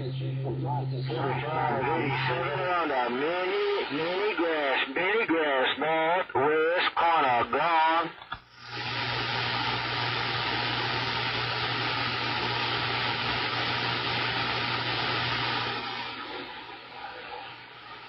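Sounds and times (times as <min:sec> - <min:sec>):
low hum from radio speaker: 0:00.0 - 0:18.0
radio static hiss: 0:00.0 - 0:18.0.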